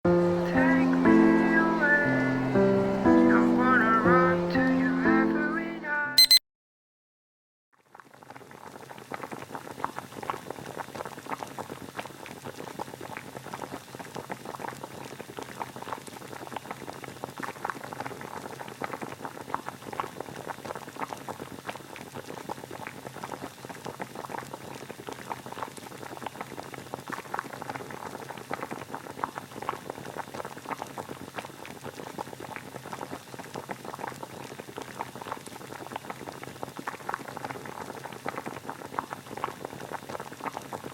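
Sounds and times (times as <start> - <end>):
water boiling and bubbling: 7.8 - 40.9.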